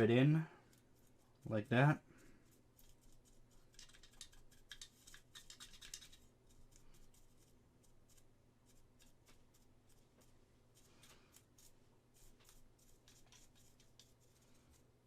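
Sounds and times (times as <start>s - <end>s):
small tool scratching and clicking: 0.6s - 14.9s.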